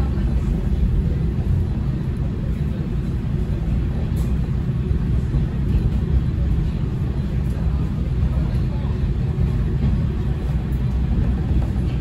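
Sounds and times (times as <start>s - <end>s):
diesel railcar rumbling: 0.0s - 12.0s.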